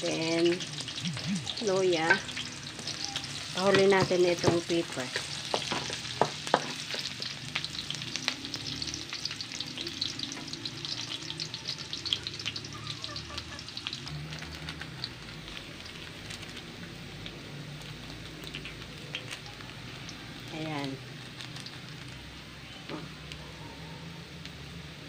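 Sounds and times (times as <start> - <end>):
vegetables sizzling in hot oil: 0.0 - 23.4.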